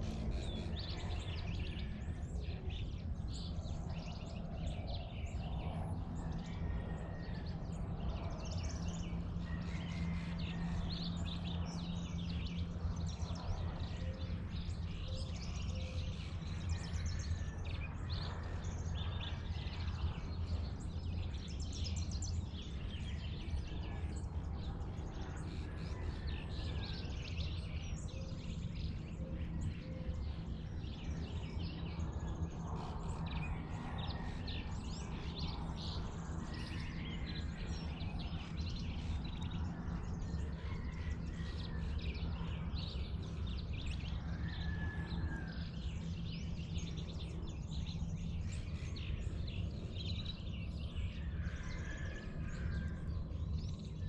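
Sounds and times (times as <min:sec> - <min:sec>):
steady low rumble: 0:00.0 - 0:51.6
birds chirping and calling: 0:08.5 - 0:54.0.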